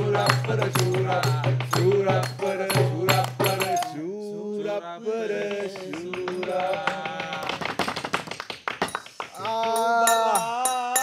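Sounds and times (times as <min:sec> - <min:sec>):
men singing together: 0:00.0 - 0:07.8, 0:09.4 - 0:11.0
hand claps and taps: 0:00.1 - 0:03.9, 0:05.5 - 0:10.8.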